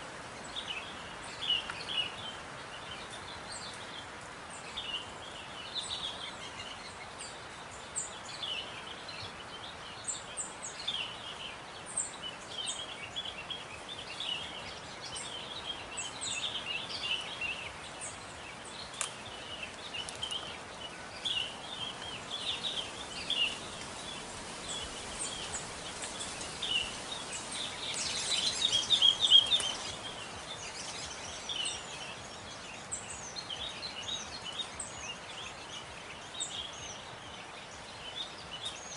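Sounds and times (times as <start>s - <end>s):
small birds chirping: 0.0s - 38.9s
steady outdoor hiss: 0.0s - 38.9s.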